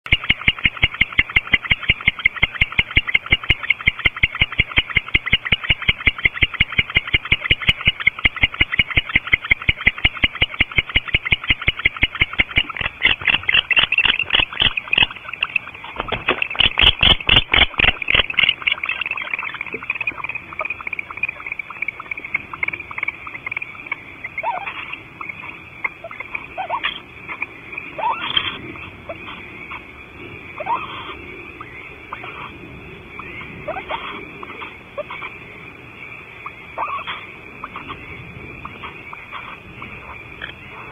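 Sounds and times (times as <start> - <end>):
owls chittering calls: 0.1 - 29.9, 30.5 - 35.4, 36.3 - 40.9.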